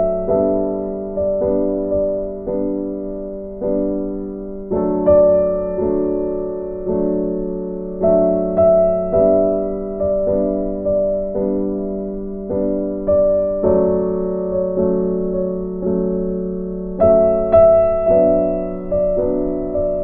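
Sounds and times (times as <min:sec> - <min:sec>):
slow piano tune: 0:00.0 - 0:20.0.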